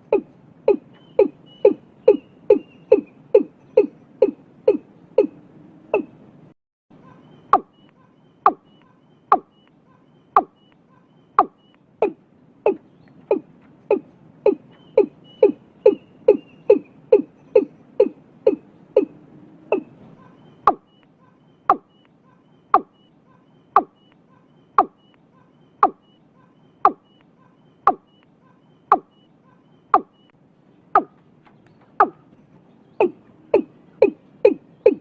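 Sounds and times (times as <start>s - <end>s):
bird calling deep hollow notes: 0.0s - 6.2s, 7.0s - 35.0s.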